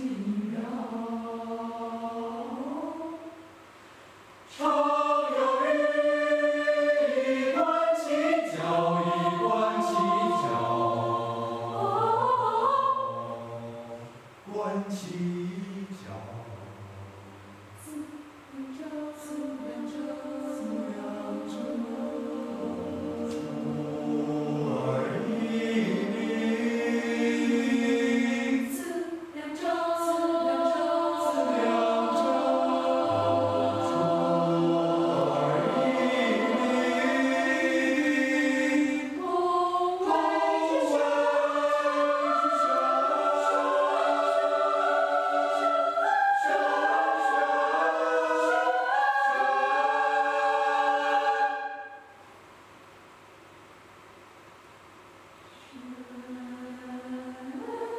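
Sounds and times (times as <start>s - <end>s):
mixed choir singing a cappella: 0.0s - 3.5s, 4.5s - 52.1s, 55.6s - 57.9s.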